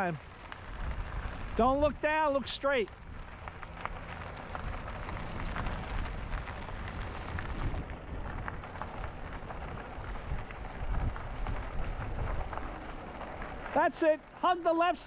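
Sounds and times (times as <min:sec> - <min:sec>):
wind rumbling on microphone: 0:00.0 - 0:13.8
bike tyres crunching on gravel: 0:00.0 - 0:15.0.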